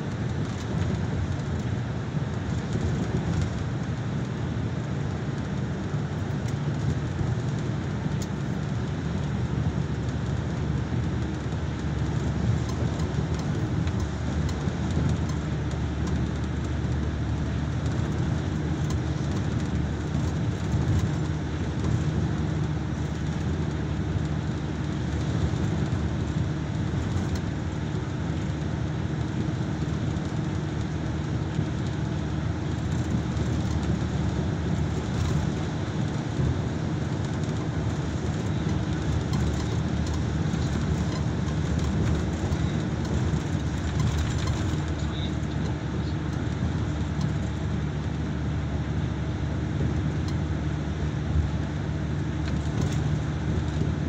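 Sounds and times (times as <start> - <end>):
road noise in tunnel: 0.0 - 54.0
vehicle engine drone: 0.0 - 54.0.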